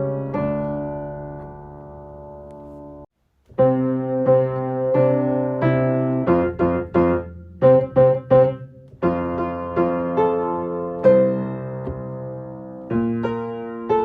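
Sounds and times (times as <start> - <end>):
simple piano playing: 0.0 - 14.0.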